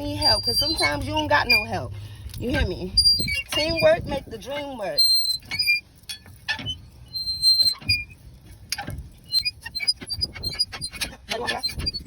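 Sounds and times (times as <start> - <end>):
car jack squeaks: 0.0 - 12.0.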